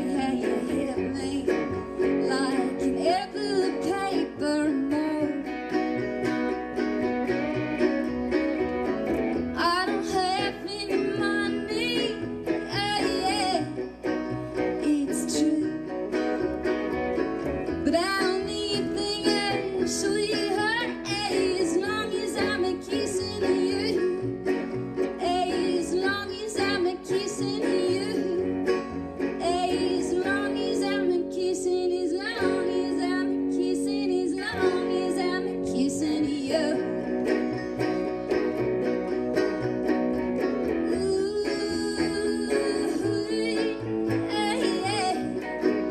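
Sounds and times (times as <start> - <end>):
guitars playing country song: 0.0 - 45.9
plucked double bass: 0.0 - 45.9.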